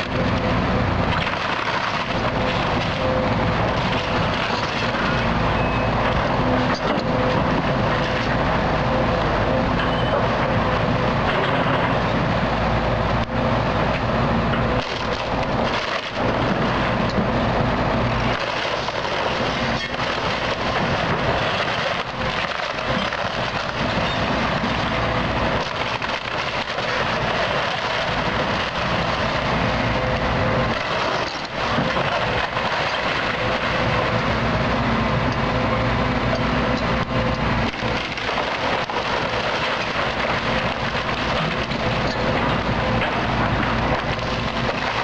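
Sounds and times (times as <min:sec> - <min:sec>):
wood cracking and splintering: 0:00.0 - 0:09.0, 0:14.0 - 0:45.0
excavator diesel engine under load: 0:00.0 - 0:45.0.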